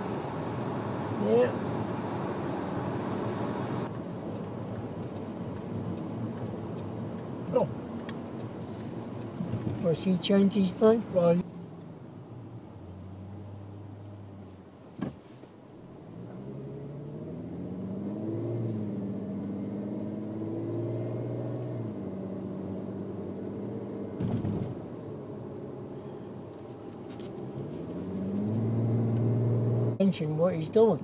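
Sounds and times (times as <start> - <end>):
car engine accelerating: 0.0 - 11.4, 15.9 - 30.1.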